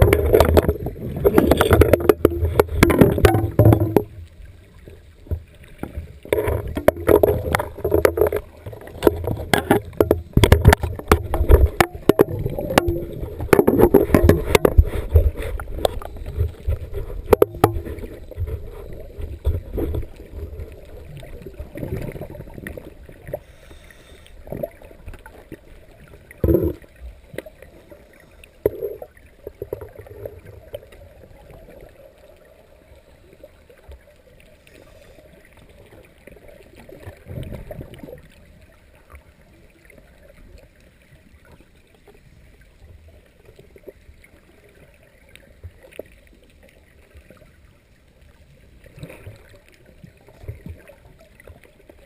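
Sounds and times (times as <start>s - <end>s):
water gurgling and churning: 0.0s - 52.0s.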